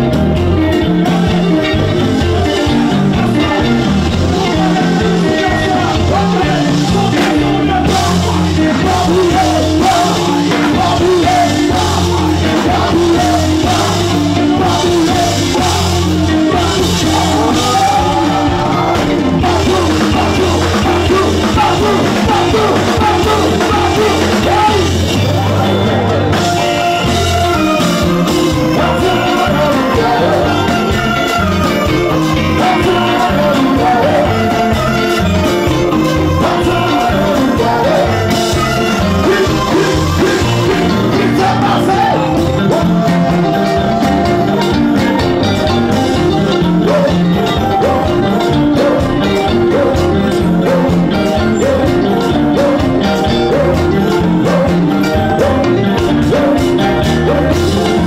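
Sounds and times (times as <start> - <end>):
live band music: 0.0 - 58.0
person singing: 0.0 - 58.0.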